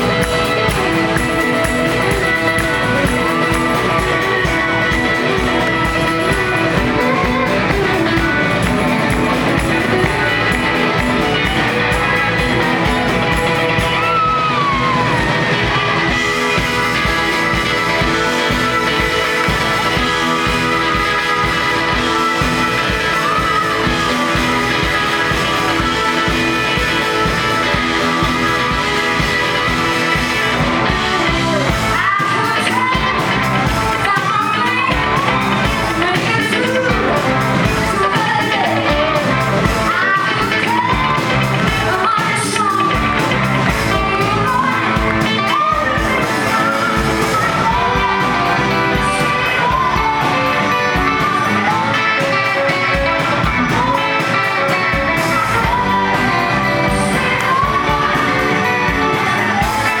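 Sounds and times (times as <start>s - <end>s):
live rock band playing: 0.0s - 60.0s
woman singing lead: 0.0s - 60.0s.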